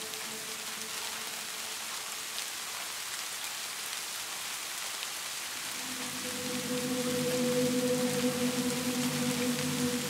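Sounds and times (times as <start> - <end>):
steady rain hiss: 0.0 - 10.0.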